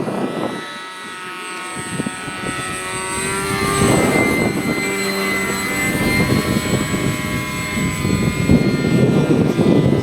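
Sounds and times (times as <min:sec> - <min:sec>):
model airplane motor whine: 0:00.0 - 0:10.0.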